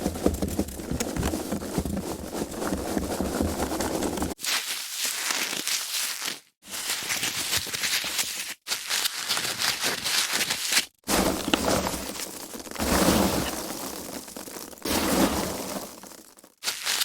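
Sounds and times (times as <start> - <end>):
foam packaging crackling: 0.0 - 15.0, 16.0 - 17.0.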